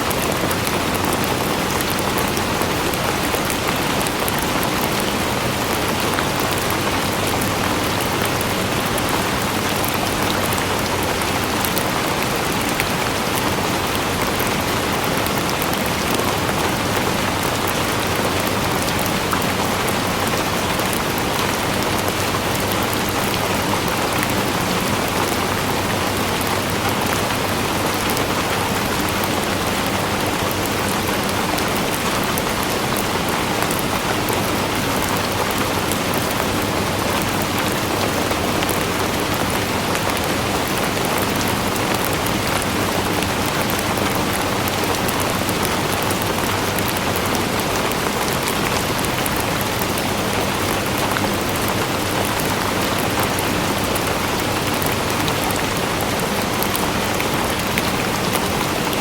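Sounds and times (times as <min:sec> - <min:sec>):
rain on a hard surface: 0:00.0 - 0:59.0.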